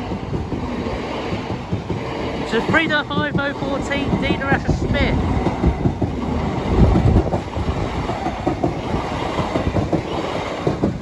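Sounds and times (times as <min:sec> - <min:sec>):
train rumbling past: 0:00.0 - 0:11.0
wheels knocking over rail joints: 0:00.0 - 0:11.0.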